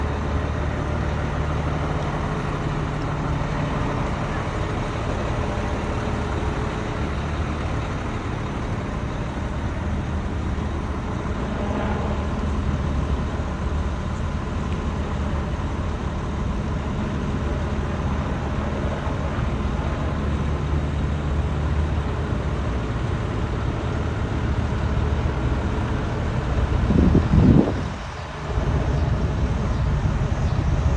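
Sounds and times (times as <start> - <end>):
fire truck engine rumbling: 0.0 - 30.9.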